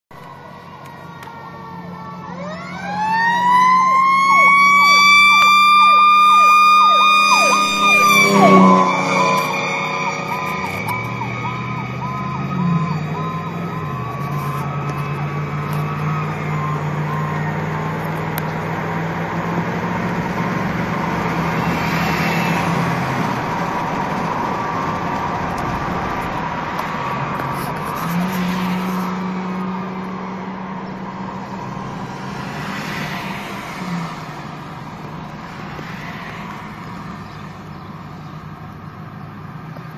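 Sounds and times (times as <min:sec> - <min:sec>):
engine and road noise: 0:00.0 - 0:39.9
fire engine siren wailing: 0:00.1 - 0:37.2.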